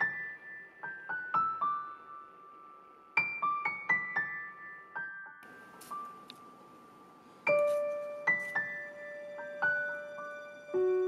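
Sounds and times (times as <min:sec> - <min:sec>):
piano notes: 0:00.0 - 0:11.0.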